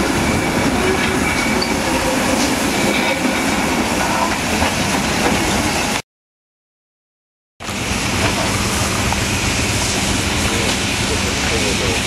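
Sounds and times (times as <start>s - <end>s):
steam locomotive rumble: 0.0s - 6.0s, 7.6s - 12.0s.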